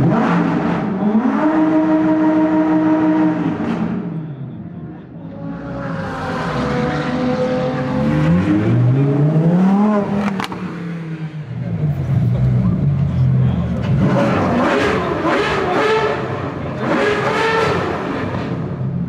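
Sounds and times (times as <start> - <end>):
supercar engines accelerating: 0.0 - 19.0.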